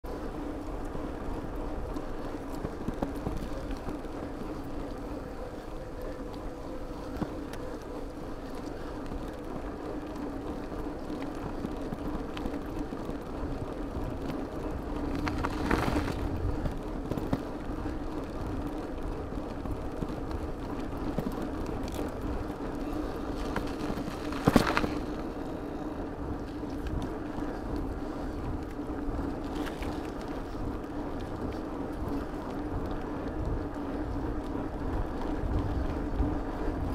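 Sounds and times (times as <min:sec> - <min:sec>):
bicycle tyres on road: 0:00.0 - 0:36.9.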